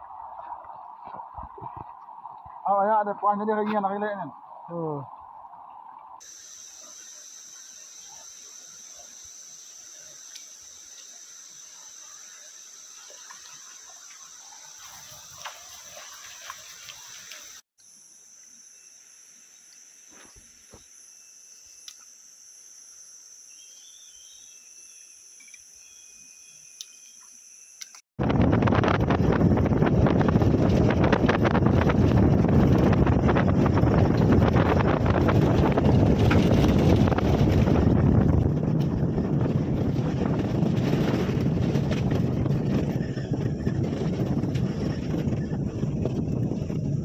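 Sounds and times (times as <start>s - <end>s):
insects chirring: 0.5s - 28.0s, 28.8s - 47.0s.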